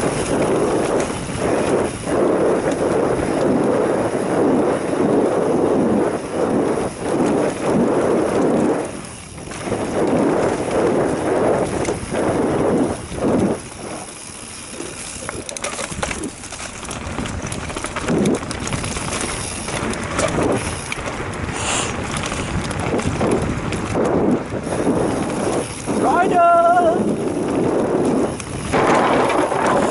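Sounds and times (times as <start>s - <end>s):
bike rumbling and rattling on trail: 0.0s - 29.9s
wind buffeting microphone: 0.0s - 29.9s.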